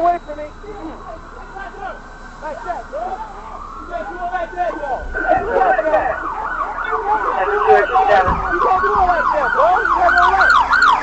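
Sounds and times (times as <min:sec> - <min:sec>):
police sirens yelping: 0:00.0 - 0:11.0.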